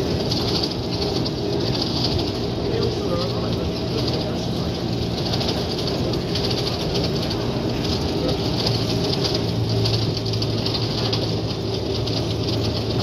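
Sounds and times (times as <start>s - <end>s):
electric train running on track: 0.0s - 13.0s.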